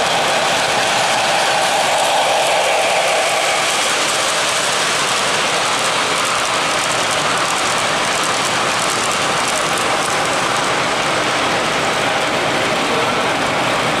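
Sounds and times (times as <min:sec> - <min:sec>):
model locomotive motor hum: 0:00.0 - 0:13.3
model train wheels rattling on rails: 0:00.0 - 0:14.0.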